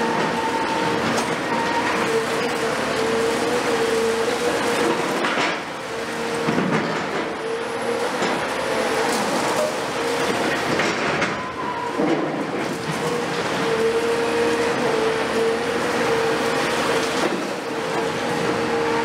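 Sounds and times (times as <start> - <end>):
excavator diesel and hydraulic whine: 0.0 - 19.0.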